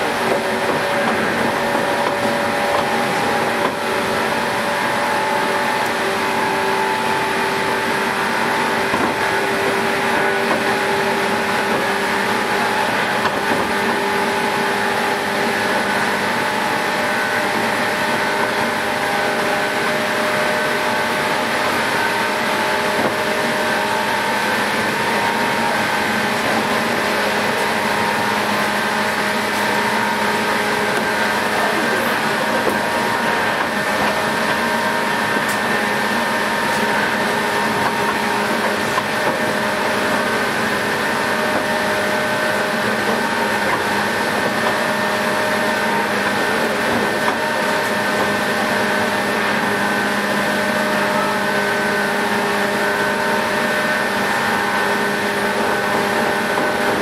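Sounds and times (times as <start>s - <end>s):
train rolling noise: 0.0s - 57.0s
train running gear humming: 0.0s - 57.0s.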